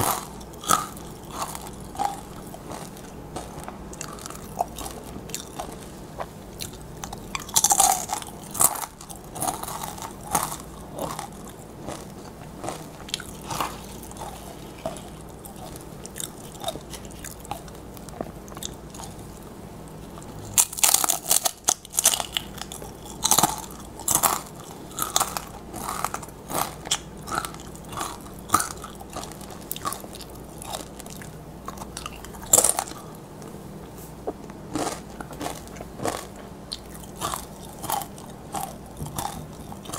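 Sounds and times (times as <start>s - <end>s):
chips crunching: 0.0s - 19.2s, 20.1s - 33.2s, 34.6s - 39.9s
crackling chewing: 0.0s - 39.9s.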